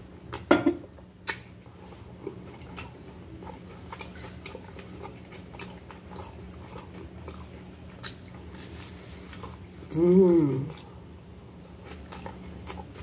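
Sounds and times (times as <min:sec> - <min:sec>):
person chewing with mouth clicks: 0:01.2 - 0:11.2, 0:11.8 - 0:13.0.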